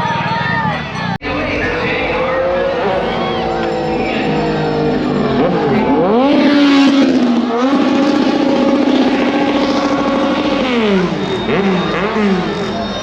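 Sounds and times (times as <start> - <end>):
motorcycle engine revving: 0.8 - 13.0.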